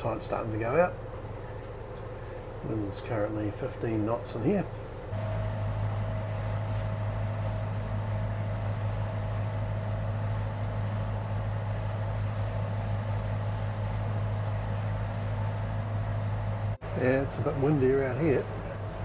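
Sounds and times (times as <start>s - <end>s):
diesel engines droning: 0.0s - 19.0s.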